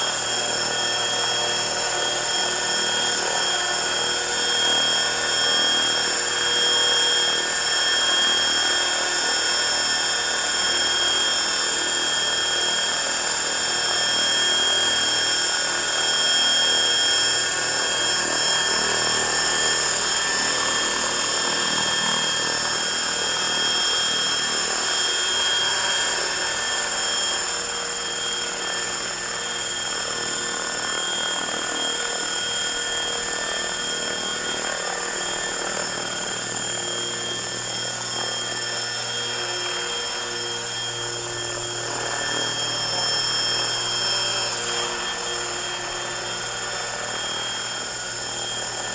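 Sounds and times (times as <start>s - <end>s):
high-pitched motor whine: 0.0s - 48.9s.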